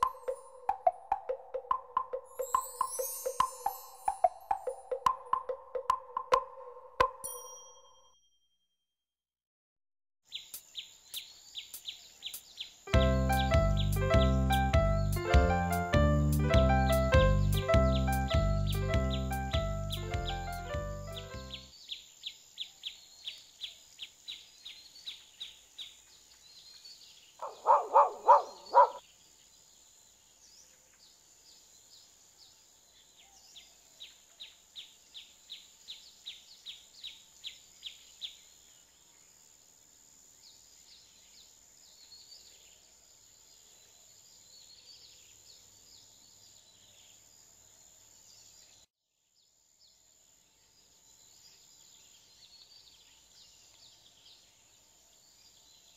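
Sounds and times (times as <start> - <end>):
bird chirping: 0.0 - 8.2, 10.3 - 39.5, 40.4 - 55.9.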